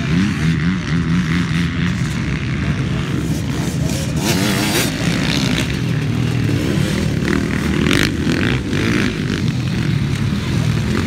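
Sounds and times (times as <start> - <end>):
motocross bikes revving past: 0.0 - 11.0.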